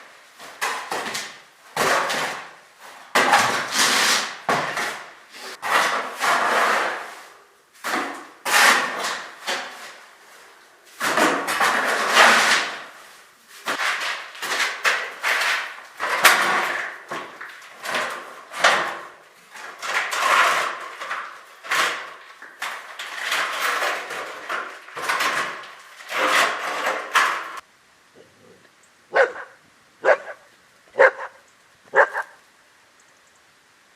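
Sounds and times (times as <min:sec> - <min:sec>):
hand tool scraping: 0:00.2 - 0:27.6.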